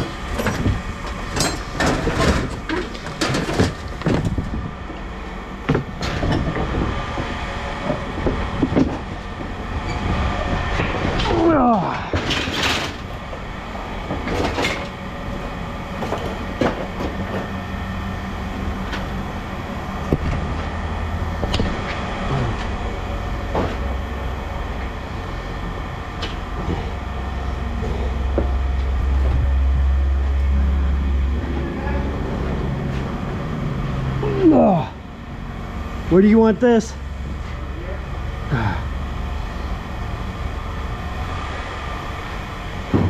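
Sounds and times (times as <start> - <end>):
low engine rumble: 0.0 - 43.0.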